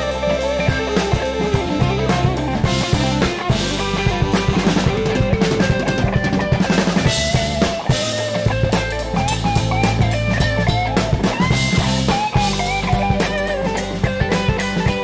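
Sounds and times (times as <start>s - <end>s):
bass line: 0.0s - 15.0s
drum kit steady beat: 0.0s - 15.0s
melodic lead line: 0.0s - 15.0s.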